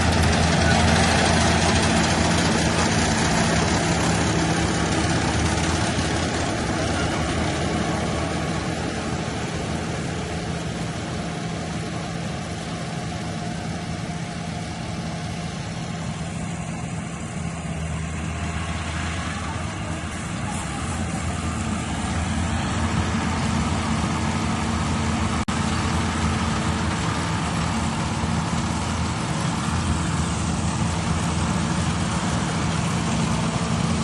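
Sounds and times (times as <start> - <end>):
harvester diesel engine running: 0.0 - 34.0.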